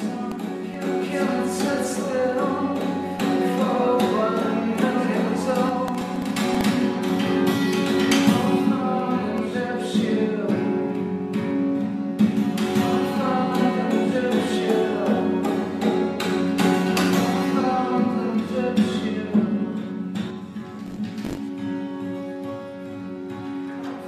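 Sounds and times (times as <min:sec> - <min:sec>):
slide acoustic guitar: 0:00.0 - 0:24.0.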